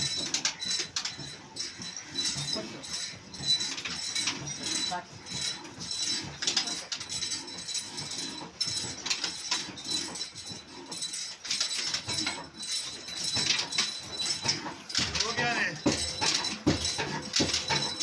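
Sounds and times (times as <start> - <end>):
tools knocking and scraping metal: 0.0 - 18.0.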